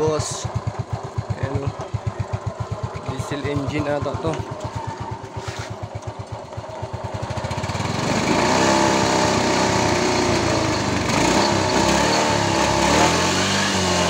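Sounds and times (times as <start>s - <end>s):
scooter engine revving: 0.0s - 14.0s.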